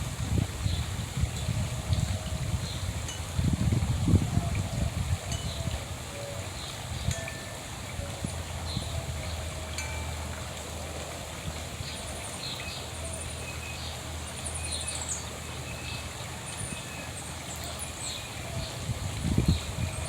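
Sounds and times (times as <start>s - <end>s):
songbirds chirping and trilling: 0.6s - 20.0s.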